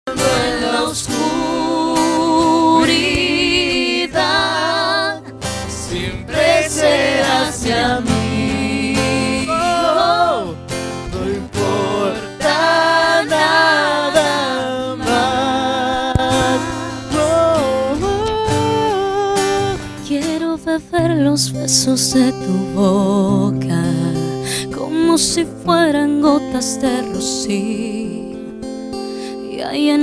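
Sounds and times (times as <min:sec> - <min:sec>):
acoustic guitar: 0:00.0 - 0:30.0.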